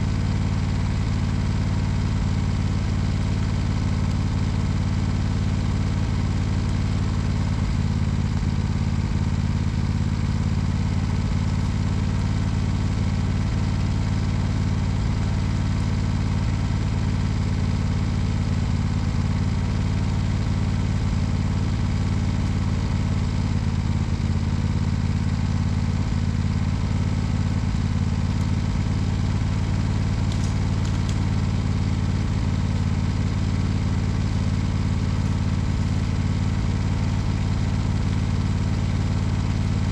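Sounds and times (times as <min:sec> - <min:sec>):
lawn tractor engine idling: 0:00.0 - 0:39.9.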